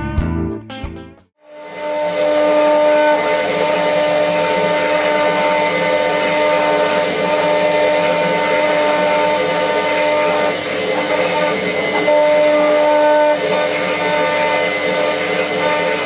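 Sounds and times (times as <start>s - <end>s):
gritty metal cutting noise: 1.4s - 16.0s
router spindle whine: 1.4s - 16.0s.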